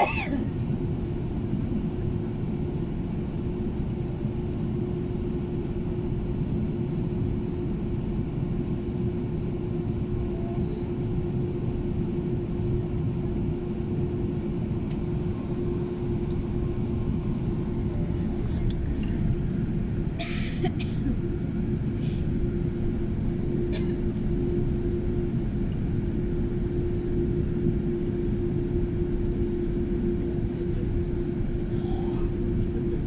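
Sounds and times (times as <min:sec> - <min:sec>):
aircraft cabin rumble: 0:00.0 - 0:33.0
mid-pitched hum: 0:00.0 - 0:33.0.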